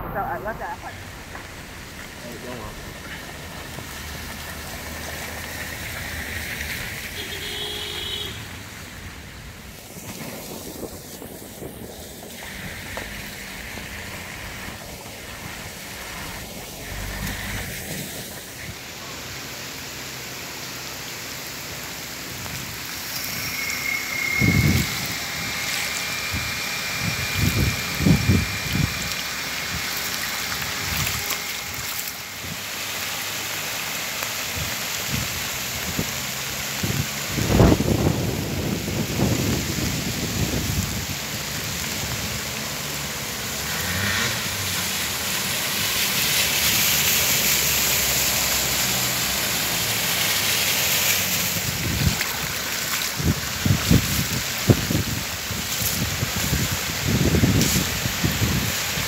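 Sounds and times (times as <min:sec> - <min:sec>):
cars driving through water: 0:00.0 - 0:59.0
rain: 0:00.0 - 0:59.0
running floodwater: 0:00.0 - 0:59.0.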